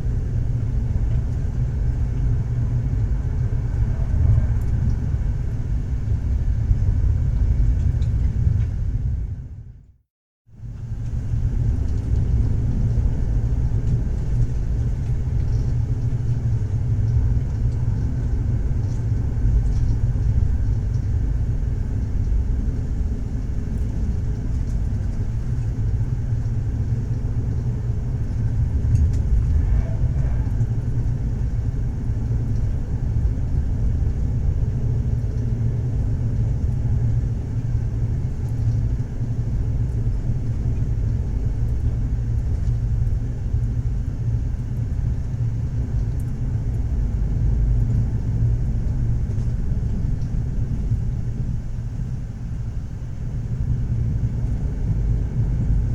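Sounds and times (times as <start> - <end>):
train rumbling along track: 0.0 - 9.7, 10.6 - 55.9.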